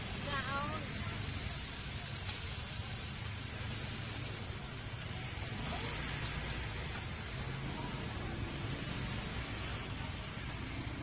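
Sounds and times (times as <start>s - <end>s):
low rumble of burner: 0.0s - 11.0s
oil sizzling in a wok: 0.0s - 11.0s.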